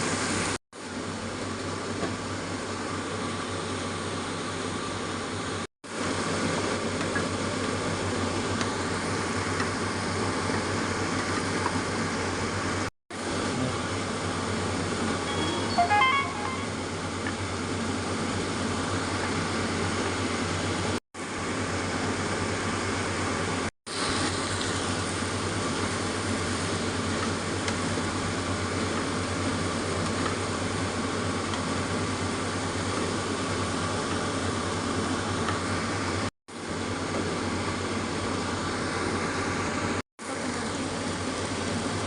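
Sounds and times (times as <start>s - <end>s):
mechanical hum with hiss: 0.0s - 42.0s.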